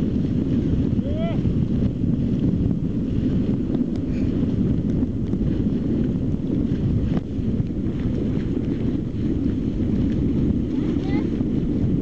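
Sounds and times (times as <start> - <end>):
water rushing along hulls: 0.0 - 12.0
wind buffeting microphone: 0.0 - 12.0.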